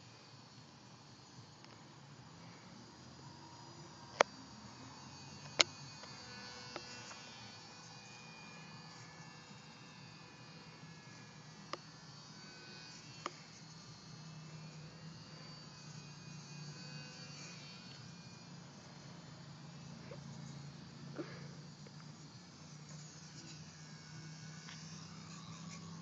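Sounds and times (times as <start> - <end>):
distant model plane motor buzz: 0.0 - 26.0.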